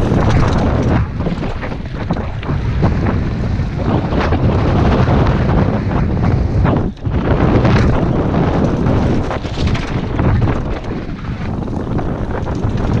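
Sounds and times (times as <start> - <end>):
bike knocks and rattles: 0.0 - 13.0
wind buffeting microphone: 0.0 - 13.0.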